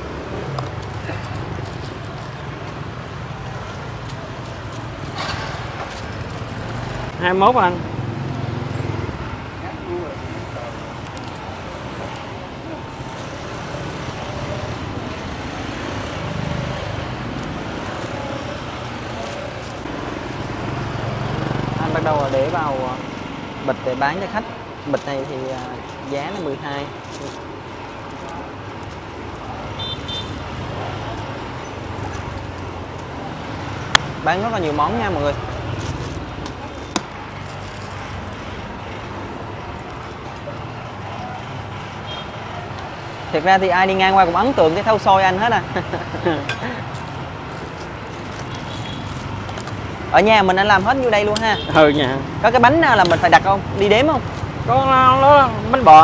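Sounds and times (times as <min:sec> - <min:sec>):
motorbike engines passing: 0:00.0 - 0:56.0
street traffic: 0:00.0 - 0:56.0.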